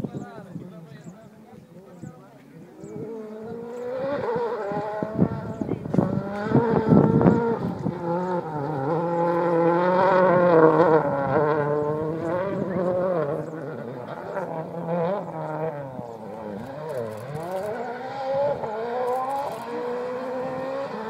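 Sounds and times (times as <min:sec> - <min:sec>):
rally car engine at full effort: 0:00.1 - 0:21.0.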